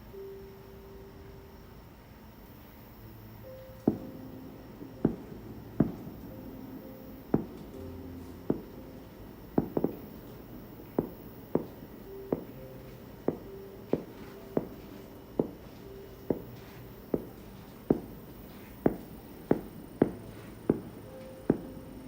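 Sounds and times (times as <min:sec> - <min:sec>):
fireworks bursting with echo: 0:03.8 - 0:22.0.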